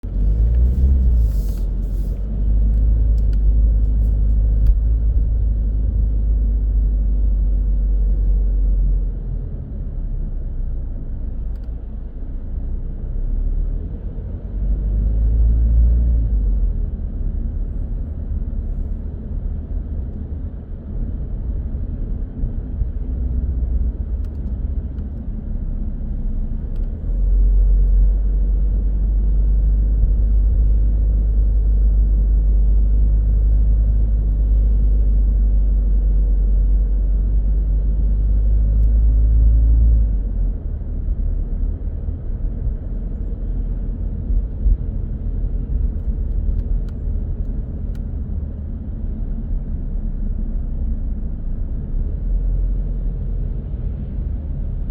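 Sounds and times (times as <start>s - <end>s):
car road and engine rumble: 0.0s - 54.9s.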